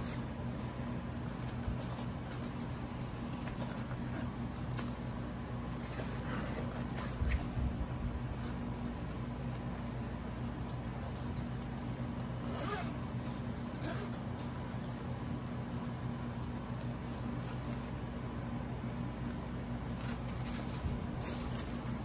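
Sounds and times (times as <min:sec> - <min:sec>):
backpack fabric rustling: 0:00.0 - 0:22.0
steady low hum: 0:00.0 - 0:22.0.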